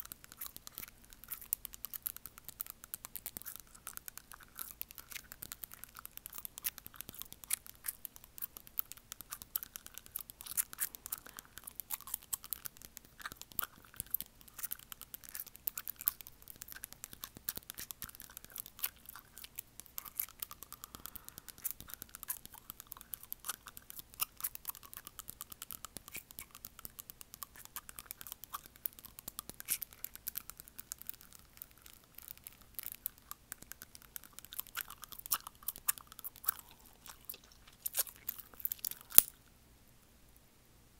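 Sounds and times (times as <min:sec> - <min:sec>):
fingernails tapping on teeth: 0:00.0 - 0:39.4.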